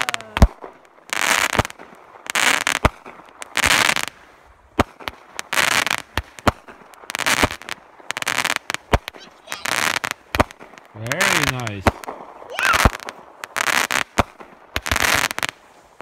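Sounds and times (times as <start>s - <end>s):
firework crackling: 0.0s - 16.0s.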